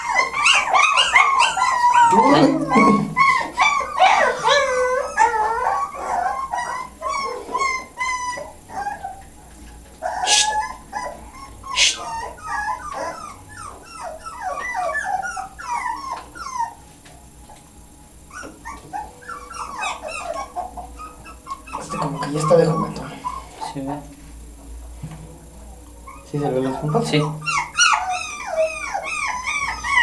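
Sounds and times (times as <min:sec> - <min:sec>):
puppy whining: 0:00.0 - 0:23.8, 0:25.4 - 0:30.0.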